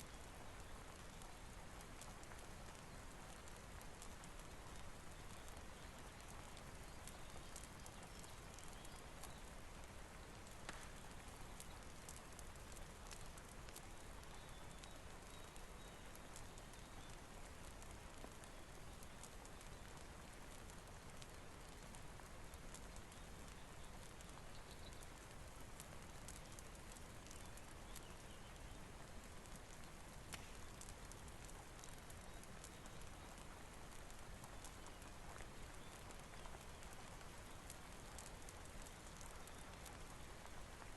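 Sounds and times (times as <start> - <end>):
faint steady rainfall: 0.0 - 40.9
small ticks and crackles: 0.0 - 40.9.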